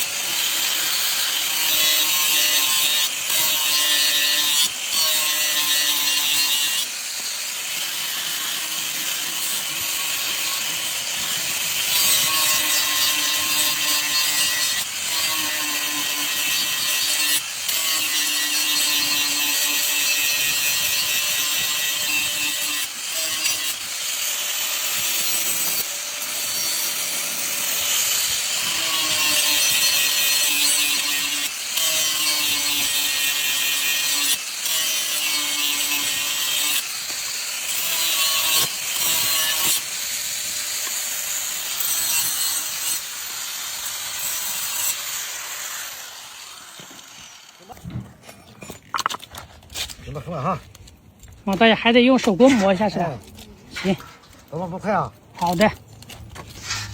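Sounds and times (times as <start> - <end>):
blade grinding gritty hiss: 0.0 - 47.8, 56.3 - 56.9.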